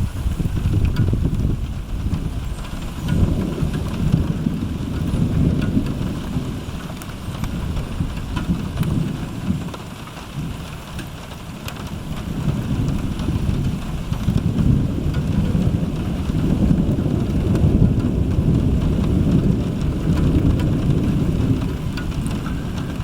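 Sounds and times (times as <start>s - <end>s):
rain falling: 0.0s - 23.0s
rolling thunder: 0.0s - 23.0s.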